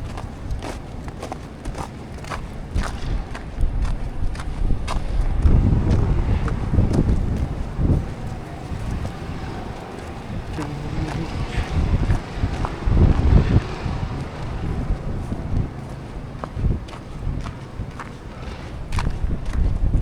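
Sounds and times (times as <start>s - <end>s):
blizzard wind buffeting microphone: 0.0s - 20.0s.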